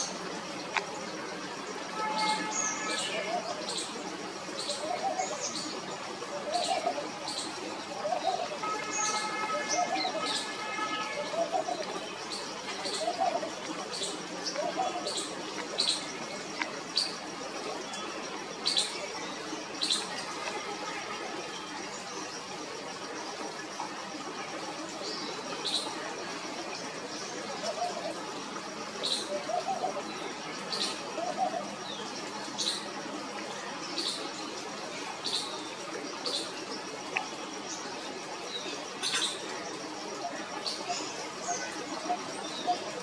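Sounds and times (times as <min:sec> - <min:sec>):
faint steady background noise: 0:00.0 - 0:43.0
steady outdoor hiss: 0:00.0 - 0:43.0.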